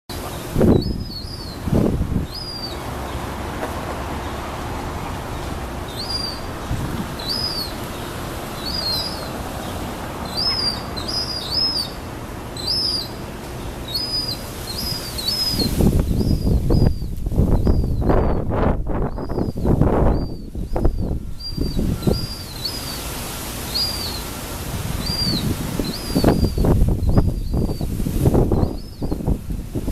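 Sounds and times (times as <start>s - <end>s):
young gulls begging calls: 0.1s - 29.3s.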